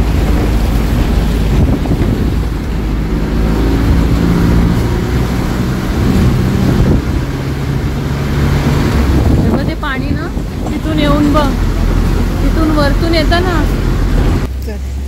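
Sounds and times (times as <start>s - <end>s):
wind buffeting microphone: 0.0s - 14.5s
bus engine droning: 0.0s - 15.0s.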